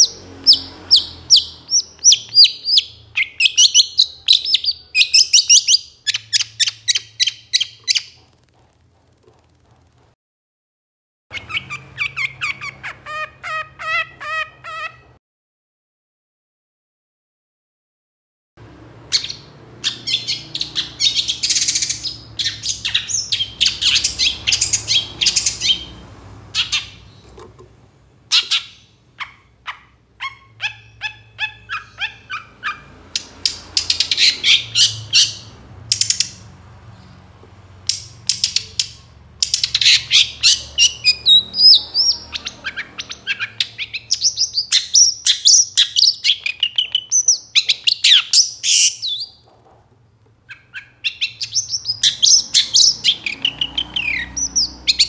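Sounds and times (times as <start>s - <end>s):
bird singing: 0.0s - 8.4s, 11.3s - 15.2s, 19.1s - 27.4s, 28.3s - 37.2s, 37.9s - 49.5s, 50.5s - 55.0s.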